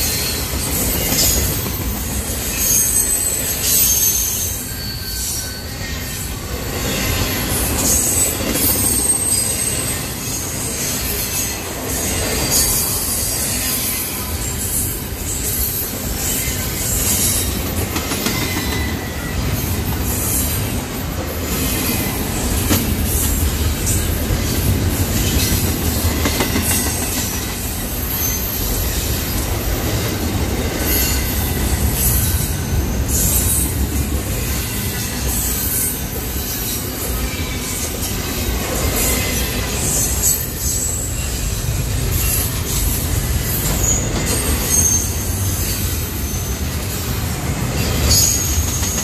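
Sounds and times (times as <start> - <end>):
high wheel squeal: 0.0 - 49.0
train wheels rumbling on rail: 0.0 - 49.0.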